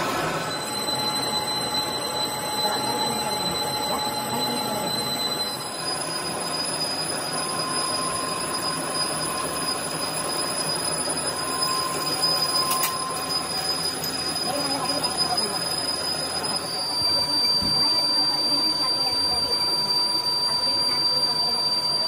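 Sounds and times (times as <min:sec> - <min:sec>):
high-pitched cutting squeal: 0:00.0 - 0:22.0
metal lathe running: 0:00.0 - 0:22.0.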